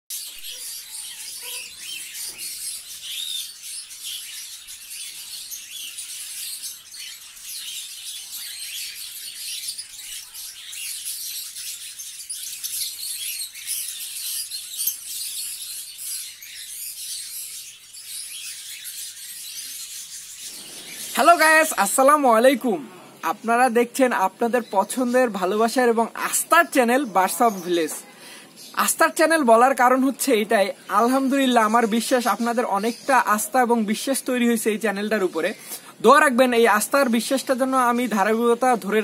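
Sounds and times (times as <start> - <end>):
cage birds chirping and chattering: 0.1 - 39.0.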